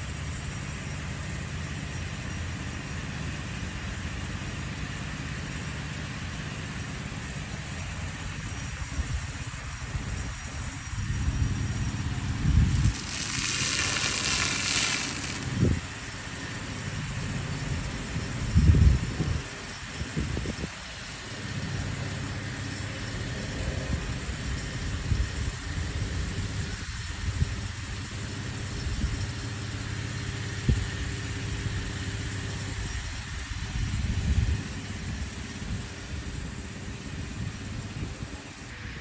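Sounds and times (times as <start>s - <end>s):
pump engine running: 0.0s - 39.0s
water spraying from sprinklers: 0.0s - 39.0s.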